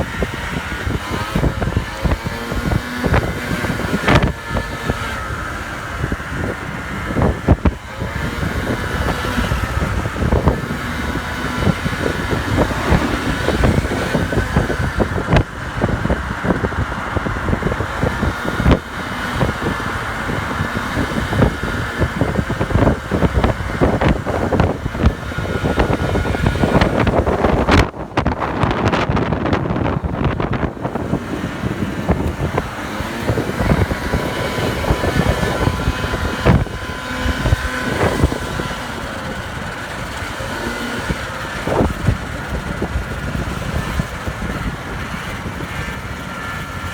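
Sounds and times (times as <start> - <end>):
moped engine running at speed: 0.0 - 46.9
wind buffeting microphone: 0.0 - 46.9.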